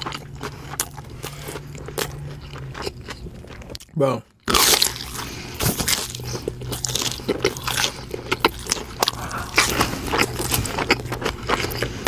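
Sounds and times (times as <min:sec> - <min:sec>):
crunchy chewing of fried chicken: 0:00.0 - 0:12.0
steady low hum: 0:00.0 - 0:12.0.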